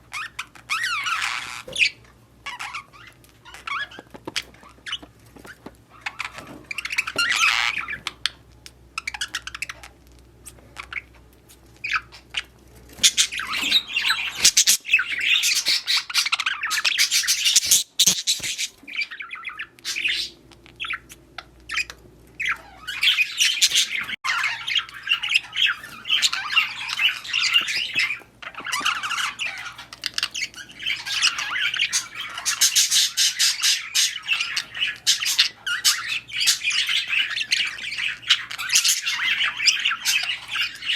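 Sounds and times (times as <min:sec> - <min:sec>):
budgerigars chattering and squawking: 0:00.1 - 0:40.9.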